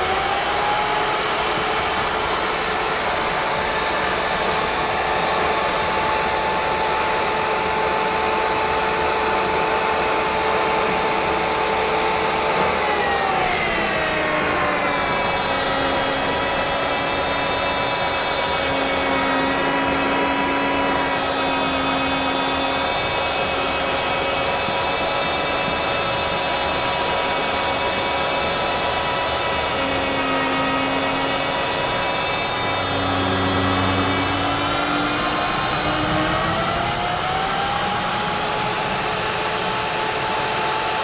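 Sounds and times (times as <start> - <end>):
drill motor whining: 0.0 - 41.0.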